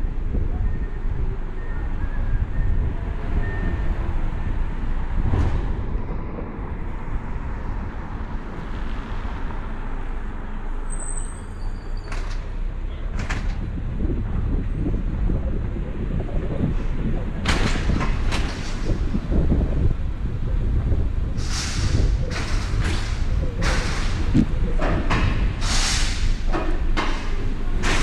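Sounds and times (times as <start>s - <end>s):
car road rumble: 0.0s - 28.0s.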